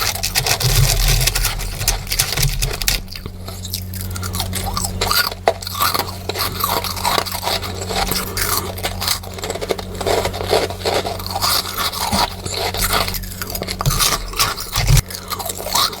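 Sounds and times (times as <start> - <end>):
crunching and chewing frost: 0.0 - 16.0.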